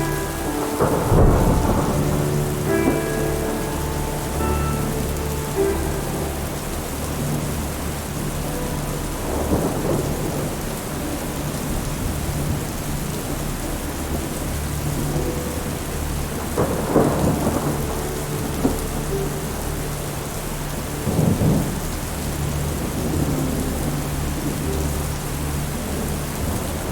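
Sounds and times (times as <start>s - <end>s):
steady rain falling: 0.0s - 26.9s
thunder rumbling: 0.0s - 26.9s.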